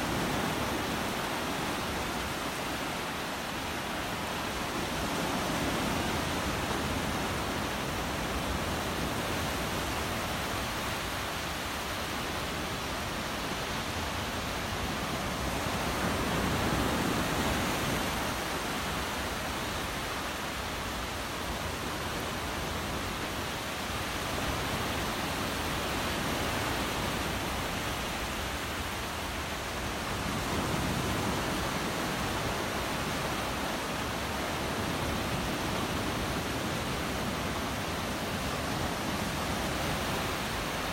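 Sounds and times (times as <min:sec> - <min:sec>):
waves washing ashore: 0:00.0 - 0:40.9.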